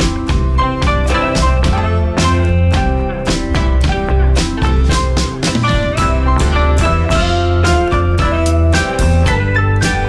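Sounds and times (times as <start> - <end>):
bass: 0.0 - 10.0
plucked guitar: 0.0 - 10.0
steady beat: 0.0 - 10.0.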